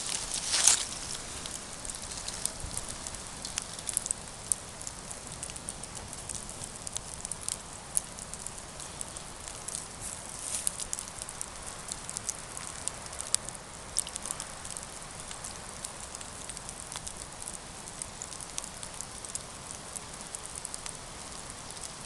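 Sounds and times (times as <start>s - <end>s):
campfire crackling and popping: 0.0s - 22.0s
fire flaring with rustle: 0.0s - 22.0s.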